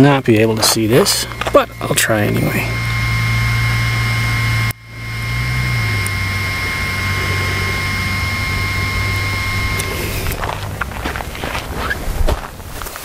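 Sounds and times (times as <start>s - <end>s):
mechanical hum with low drone: 0.0s - 13.0s
thin high whine: 0.0s - 13.0s.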